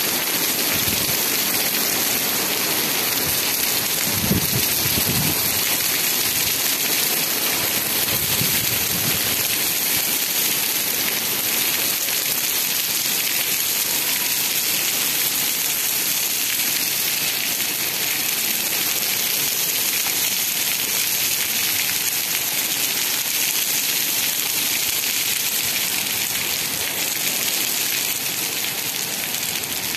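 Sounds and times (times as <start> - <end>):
rain on cobblestones: 0.0 - 29.9.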